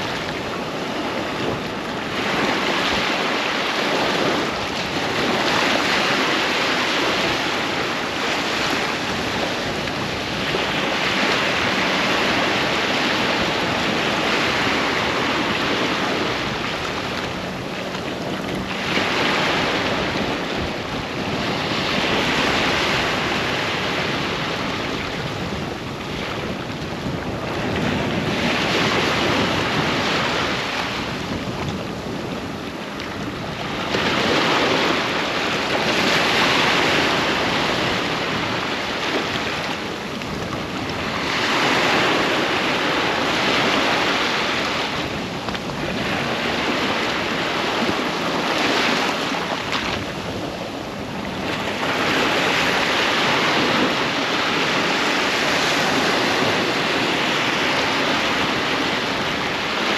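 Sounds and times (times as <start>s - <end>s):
waves breaking on sandy beach: 0.0s - 59.9s
wind buffeting microphone: 0.0s - 59.9s.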